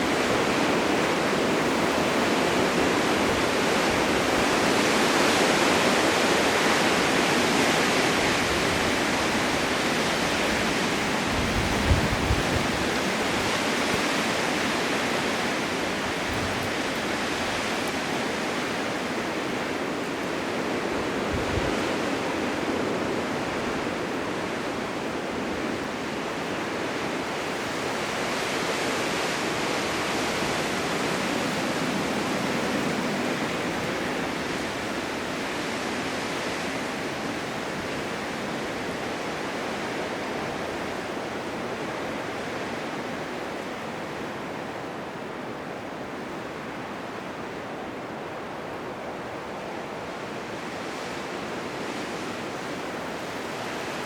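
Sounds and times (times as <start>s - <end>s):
blizzard wind gusting: 0.0s - 54.0s.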